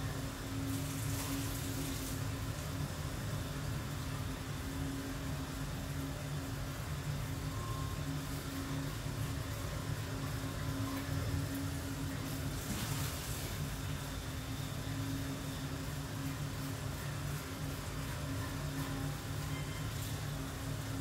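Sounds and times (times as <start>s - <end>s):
exercise machine droning: 0.0s - 21.0s.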